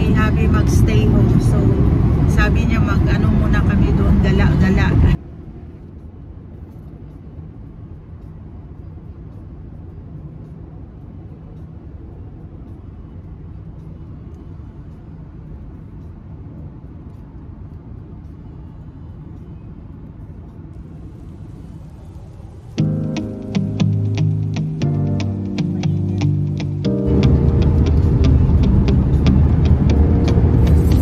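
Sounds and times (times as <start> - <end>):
car interior road and engine rumble: 0.0 - 31.0.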